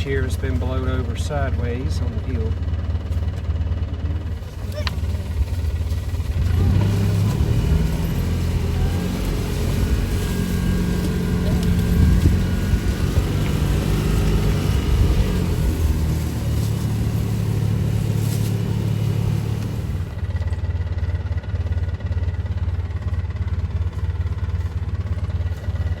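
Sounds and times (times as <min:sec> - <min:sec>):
small vehicle engine driving: 0:00.0 - 0:26.0.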